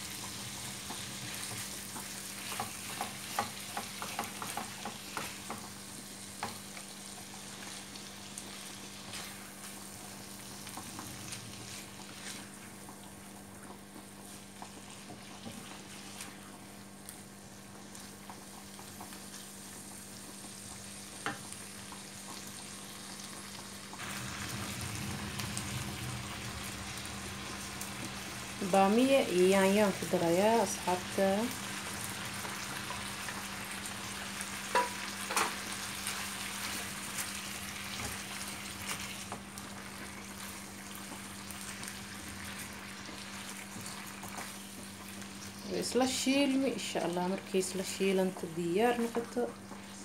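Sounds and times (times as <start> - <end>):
chicken sizzling in oil: 0.0 - 50.0.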